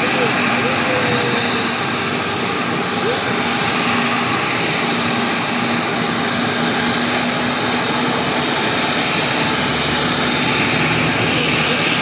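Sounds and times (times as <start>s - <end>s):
airliner engines running: 0.0s - 12.0s.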